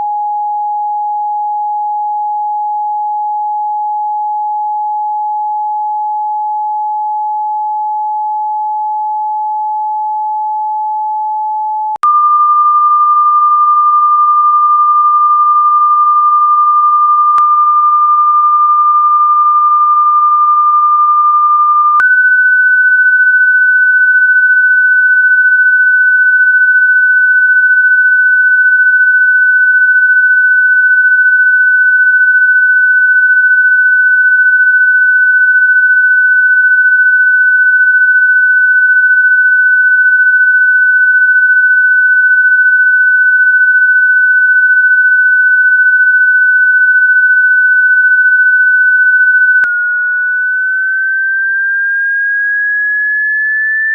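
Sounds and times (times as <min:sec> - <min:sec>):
sine-wave test tone: 0:00.0 - 0:53.9.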